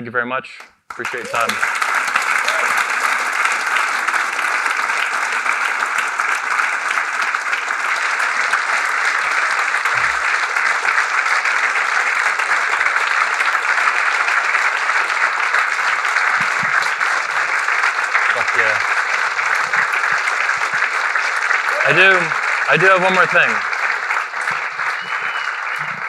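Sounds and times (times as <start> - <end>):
audience applauding: 0.9 - 26.0.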